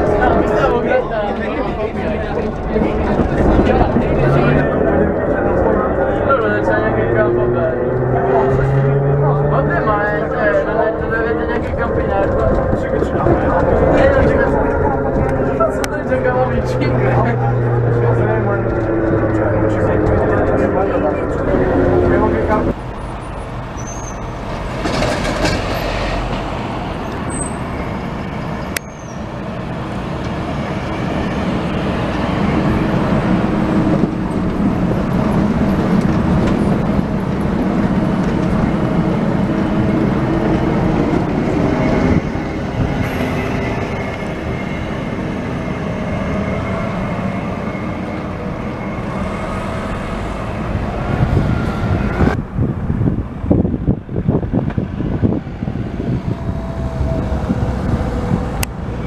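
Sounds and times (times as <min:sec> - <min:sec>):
tram rumbling past: 0:00.0 - 0:59.0.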